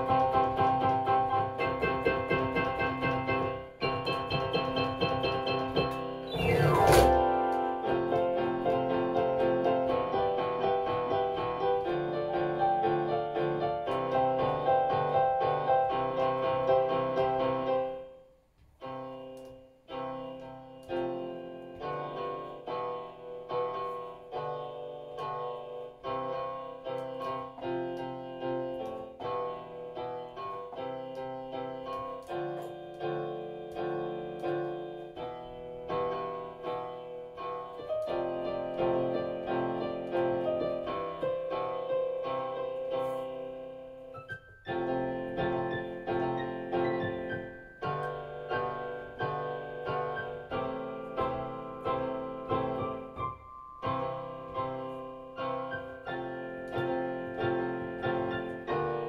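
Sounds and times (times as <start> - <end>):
solo piano music: 0.0 - 59.0.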